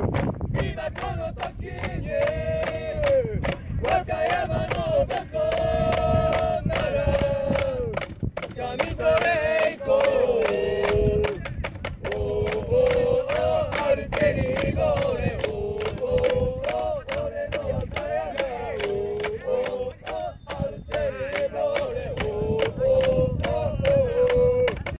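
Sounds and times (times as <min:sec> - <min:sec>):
crowd chanting in unison: 0:00.6 - 0:25.0.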